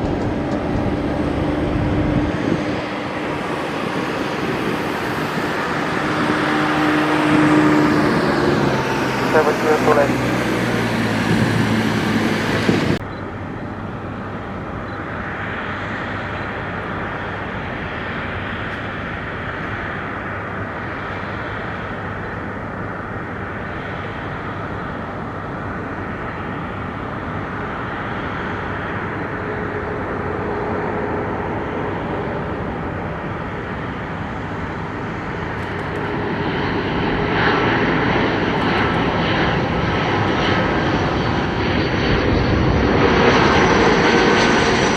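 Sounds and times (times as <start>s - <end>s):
jet engines rushing: 0.0s - 44.9s.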